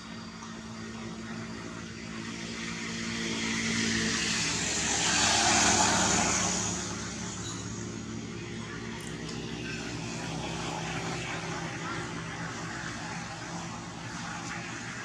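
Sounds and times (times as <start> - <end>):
passing motor engine hum: 0.0 - 15.0
rush of passing noise: 2.2 - 15.0.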